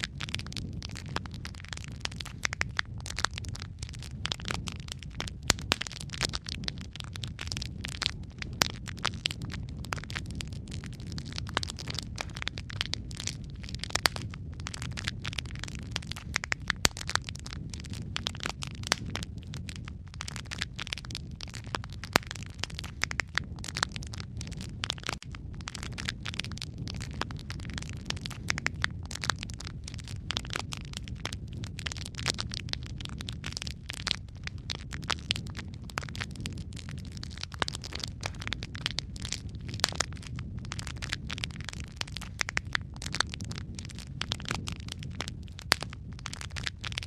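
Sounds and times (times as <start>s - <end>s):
fire low rumble: 0.0s - 47.0s
wood fire crackling and popping: 0.0s - 47.0s.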